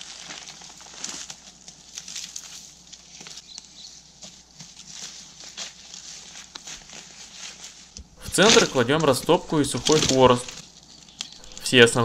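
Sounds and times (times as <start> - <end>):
twigs crackling and snapping: 0.0 - 3.9, 4.5 - 12.0
undergrowth rustling: 0.0 - 12.0.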